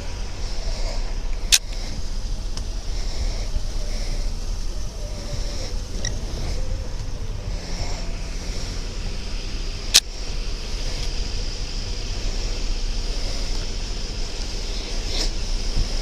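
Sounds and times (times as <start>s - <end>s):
outdoor rumble and hiss: 0.0s - 16.0s.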